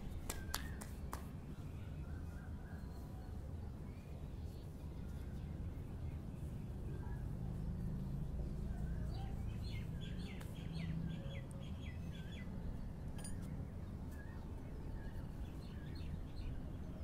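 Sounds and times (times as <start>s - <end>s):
birds chirping: 0.3s - 17.0s.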